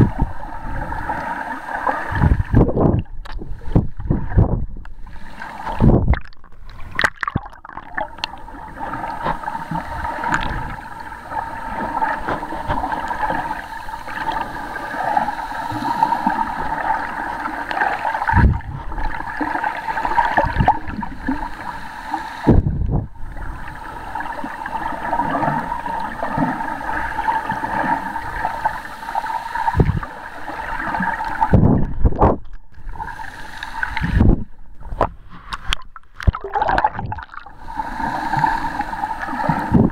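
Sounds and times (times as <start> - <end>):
water gurgling underwater: 0.0 - 21.8, 22.4 - 28.8, 29.6 - 33.2, 33.8 - 39.9.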